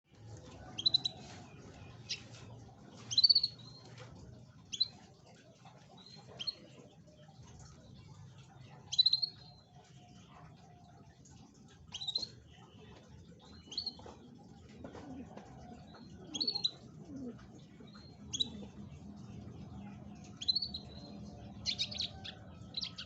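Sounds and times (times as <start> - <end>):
canary chirping and trilling: 0.1 - 14.4, 15.9 - 23.0.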